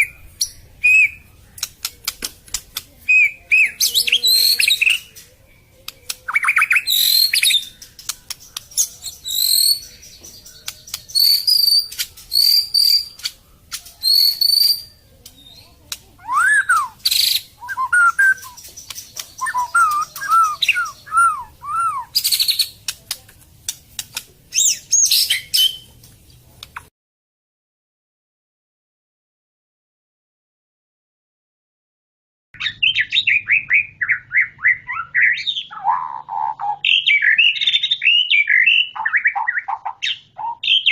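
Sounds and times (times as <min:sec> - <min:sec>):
songbird singing: 0:00.0 - 0:26.9, 0:32.6 - 0:40.9.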